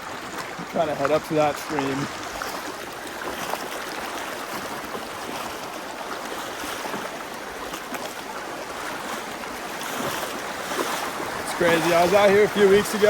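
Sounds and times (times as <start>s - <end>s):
mountain stream flowing: 0.0s - 13.0s.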